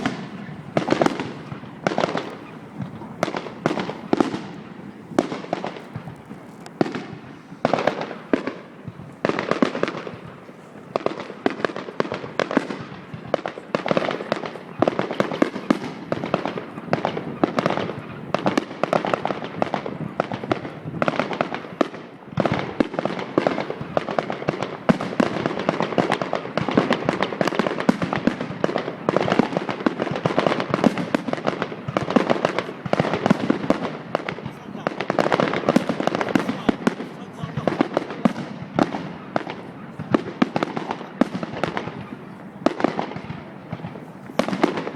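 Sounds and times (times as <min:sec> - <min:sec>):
fireworks bursts and bangs: 0:00.0 - 0:44.9
fireworks crackling: 0:00.0 - 0:44.9.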